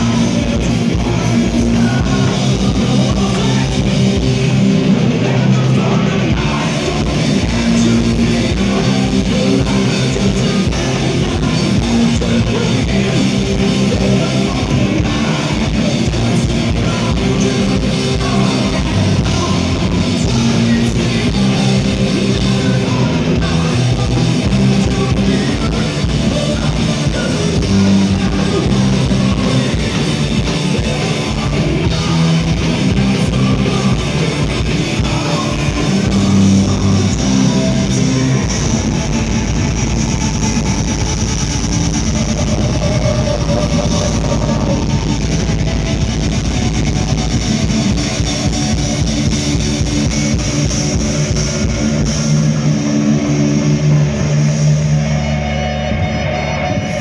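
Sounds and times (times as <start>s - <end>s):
bass guitar: 0.0s - 57.0s
distorted electric guitars: 0.0s - 57.0s
drum kit: 0.0s - 57.0s
person singing: 0.0s - 57.0s.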